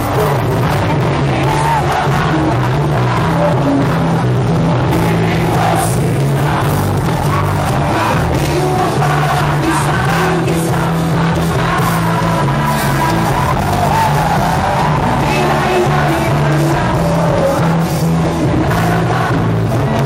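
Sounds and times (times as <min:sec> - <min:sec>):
crowd cheering: 0:00.0 - 0:20.0
live rock band playing: 0:00.0 - 0:20.0
person singing: 0:00.0 - 0:20.0.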